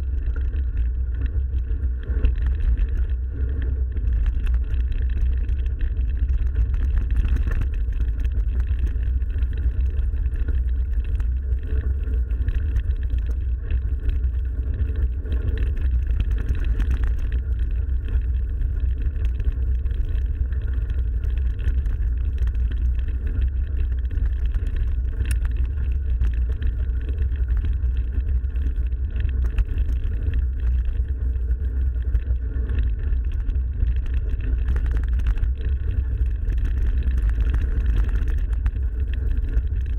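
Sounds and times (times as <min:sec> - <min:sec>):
bike tyre noise: 0:00.0 - 0:39.9
wind rumble on microphone: 0:00.0 - 0:39.9.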